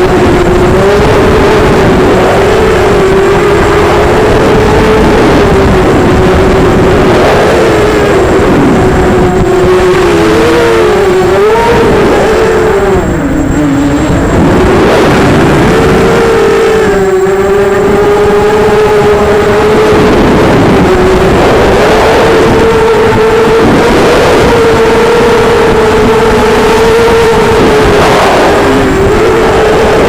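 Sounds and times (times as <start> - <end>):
quadcopter motors whining: 0.0 - 30.0
wind rumble: 0.0 - 30.0.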